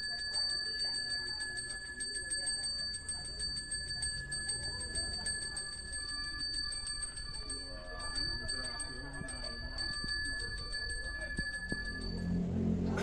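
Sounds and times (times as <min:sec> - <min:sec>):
hand bell ringing: 0:00.0 - 0:13.0.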